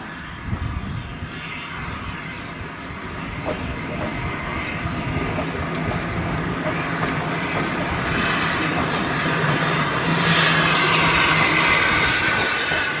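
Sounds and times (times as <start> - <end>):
railway coaches rolling on rails: 0.0 - 13.0
steam locomotive: 0.0 - 13.0.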